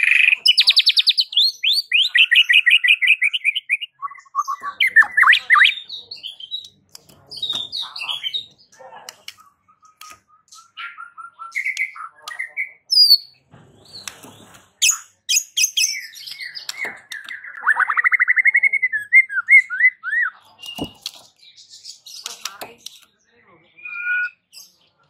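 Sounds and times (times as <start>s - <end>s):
bird singing varied song: 0.0s - 25.0s.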